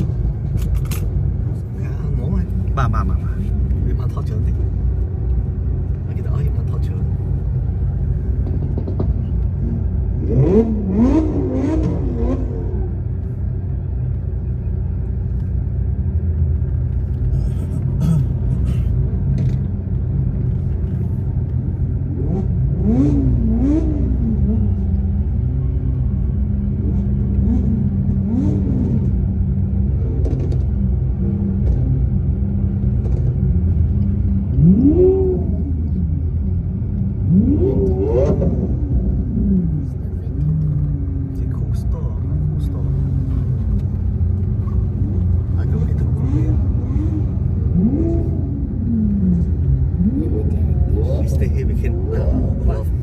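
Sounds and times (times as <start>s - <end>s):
car engines rumbling: 0.0s - 53.0s.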